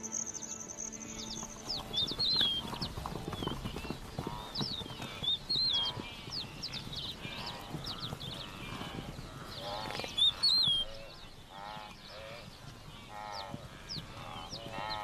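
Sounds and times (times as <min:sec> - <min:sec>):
birds whistling calls: 0:00.0 - 0:15.0
hooves knocking: 0:01.2 - 0:15.0
low animal calls: 0:01.6 - 0:15.0.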